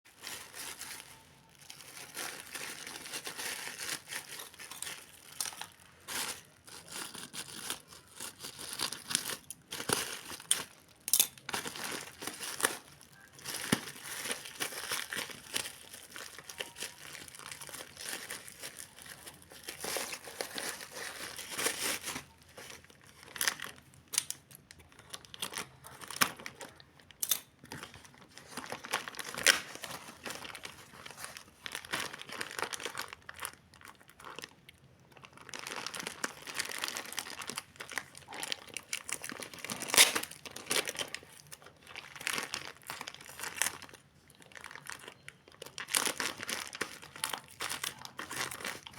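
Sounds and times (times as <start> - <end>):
packaging crinkling: 0.1 - 48.9
packaging tearing: 0.2 - 34.5, 35.2 - 48.9.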